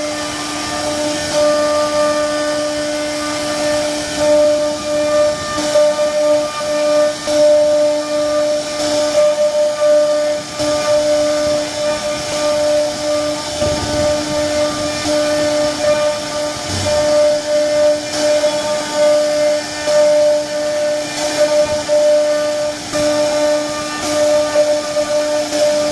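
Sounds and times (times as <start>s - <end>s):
router spindle whining: 0.0s - 25.9s.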